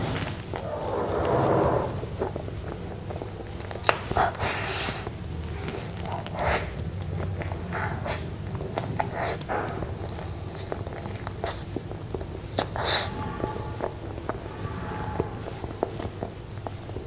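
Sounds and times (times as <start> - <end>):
soft moist chewing: 2.2 - 17.0.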